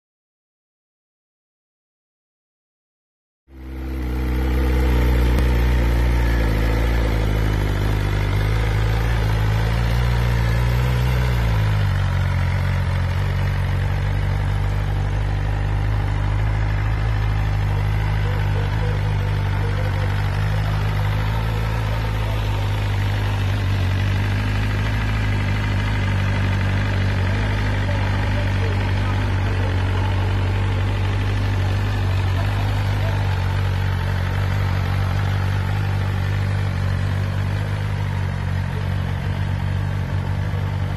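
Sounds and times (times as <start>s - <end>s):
motorcycle engine idling: 3.5s - 40.9s.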